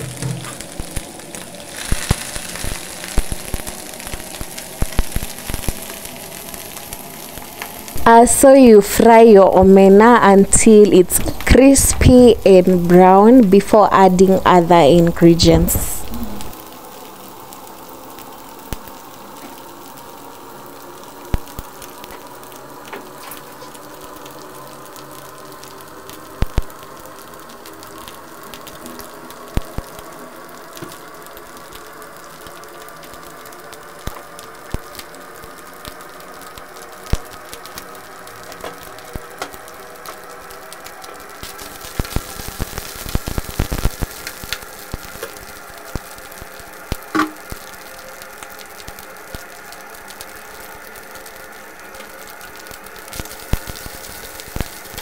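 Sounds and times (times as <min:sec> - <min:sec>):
fish sizzling in oil: 0:00.0 - 0:55.0.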